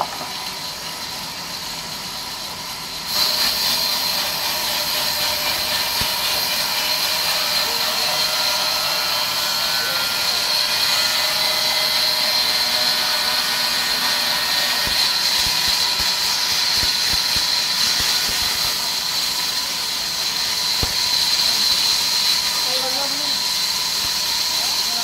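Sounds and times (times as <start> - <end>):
band saw cutting wood: 0.0 - 25.0.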